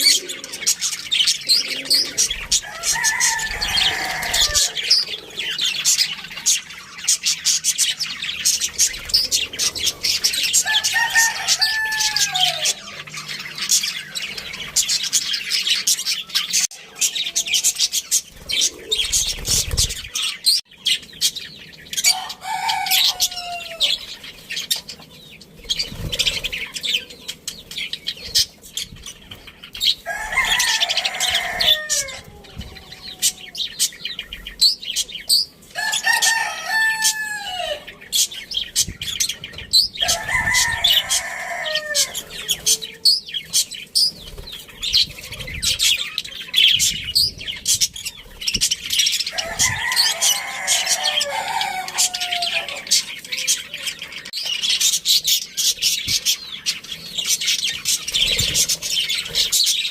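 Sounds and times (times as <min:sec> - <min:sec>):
budgerigars chirping and chattering: 0:00.0 - 0:59.9
lower falling bird calls: 0:00.0 - 0:59.9.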